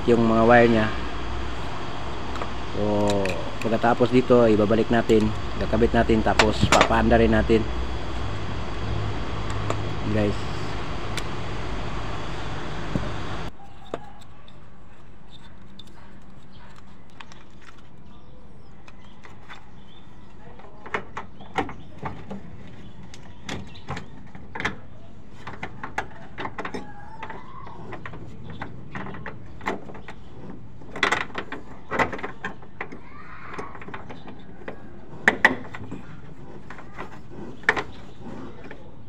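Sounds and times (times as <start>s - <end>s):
steady background noise: 0.0s - 39.0s.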